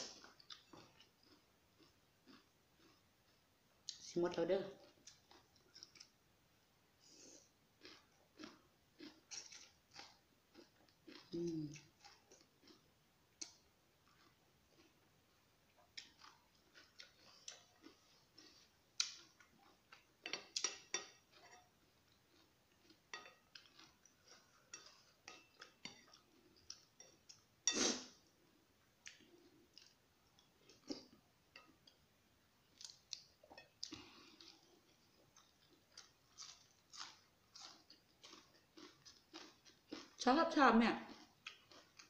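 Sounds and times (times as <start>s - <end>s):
chewing: 0.0s - 3.0s, 4.7s - 6.2s, 7.1s - 28.2s, 29.0s - 32.0s, 32.7s - 40.3s, 41.0s - 42.0s.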